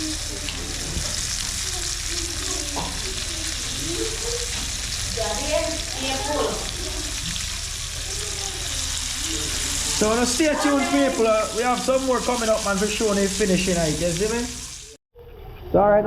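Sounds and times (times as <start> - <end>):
faint voices: 0.0 - 14.4
frying in hot oil sizzle: 0.0 - 15.0.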